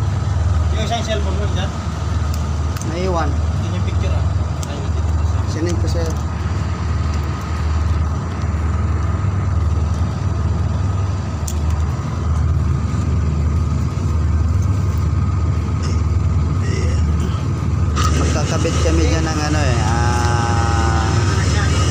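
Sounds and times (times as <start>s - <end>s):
air conditioner low hum: 0.0s - 21.9s
thin steady whine: 0.0s - 21.9s.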